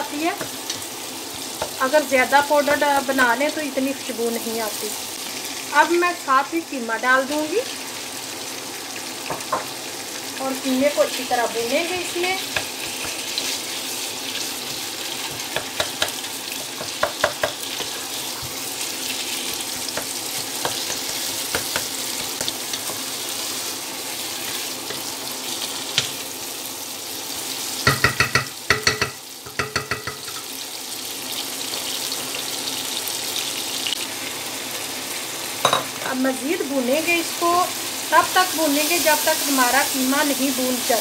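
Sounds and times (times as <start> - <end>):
meat sizzling in oil: 0.0 - 41.0.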